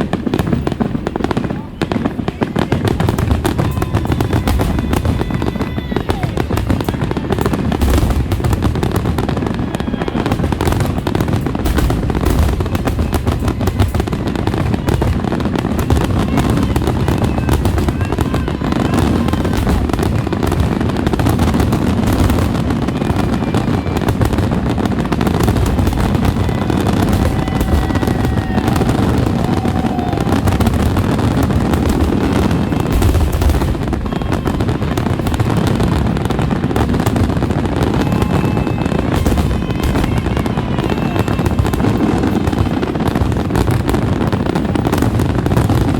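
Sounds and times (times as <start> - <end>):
fireworks bursting and crackling: 0.0 - 45.9.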